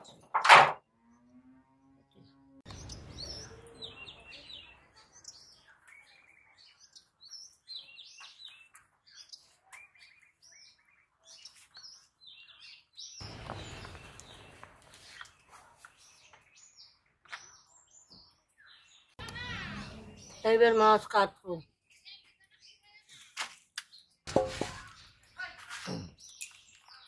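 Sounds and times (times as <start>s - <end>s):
small birds chirping: 1.1s - 27.0s.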